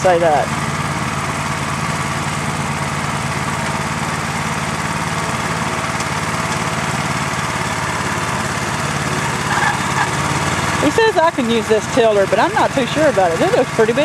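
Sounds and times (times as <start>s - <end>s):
garden tiller engine running: 0.0s - 14.0s.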